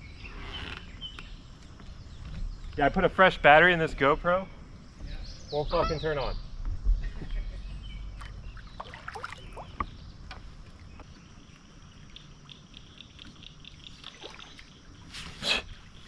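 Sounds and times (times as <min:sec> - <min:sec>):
low steady hiss: 0:01.0 - 0:16.0.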